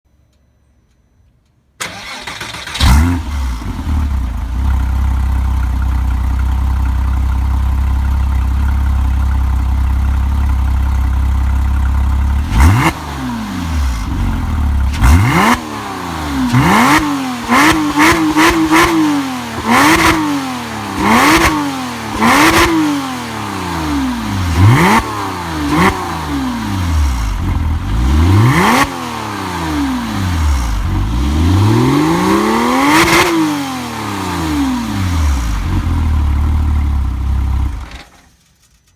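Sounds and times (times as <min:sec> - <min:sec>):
car engine idling and revving: 0:01.8 - 0:38.9.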